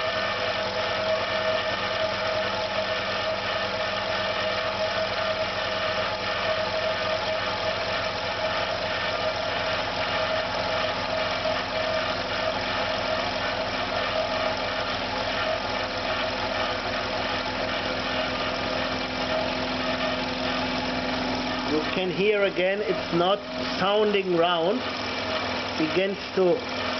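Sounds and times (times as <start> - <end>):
electric air compressor running: 0.0 - 26.9.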